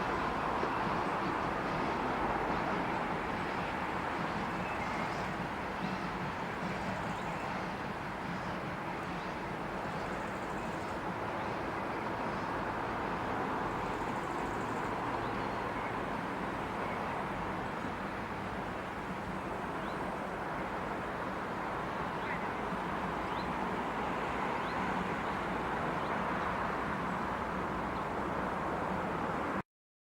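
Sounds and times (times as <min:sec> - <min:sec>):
train rumbling and rolling: 0:00.0 - 0:29.6.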